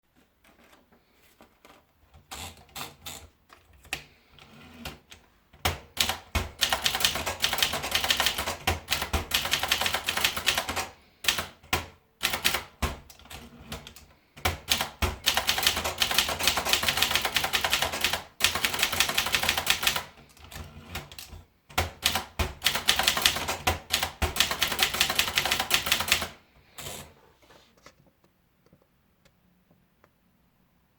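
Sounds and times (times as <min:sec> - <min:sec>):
typewriter typing: 0:02.3 - 0:27.1.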